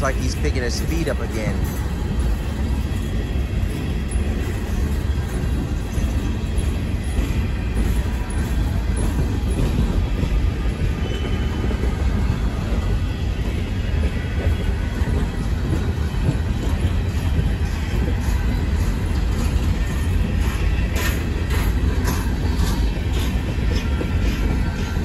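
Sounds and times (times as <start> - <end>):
train wheels rolling on rails: 0.0 - 25.0.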